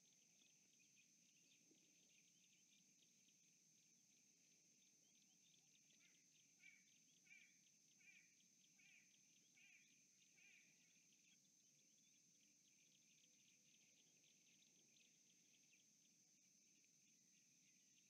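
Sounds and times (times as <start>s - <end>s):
faint chirps: 0.0s - 18.0s.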